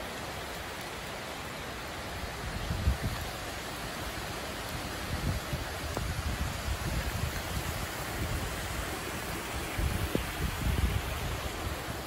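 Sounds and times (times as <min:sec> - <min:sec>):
heavy rain hissing: 0:00.0 - 0:12.0
wind gusts buffeting microphone: 0:02.2 - 0:12.0.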